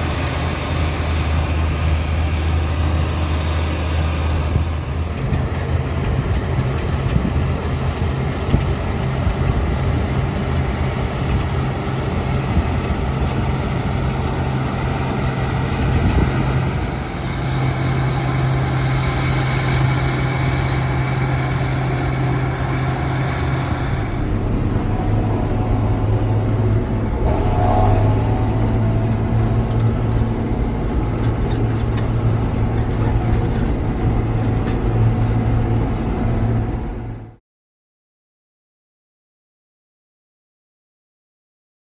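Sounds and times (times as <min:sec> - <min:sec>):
farm machinery engine humming: 0:00.0 - 0:37.4.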